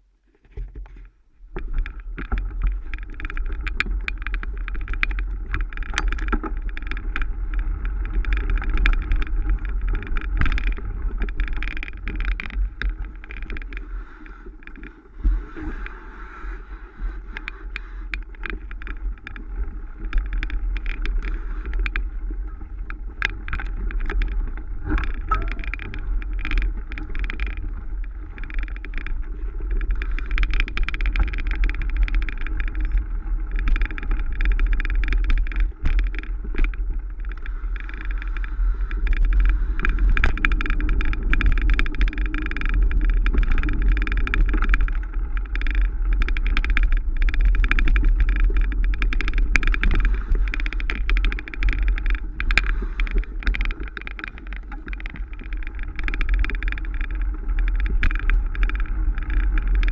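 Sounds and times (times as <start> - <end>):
wind and tyre rumble: 0.0 - 59.9
bike rattling over bumps: 0.5 - 59.9.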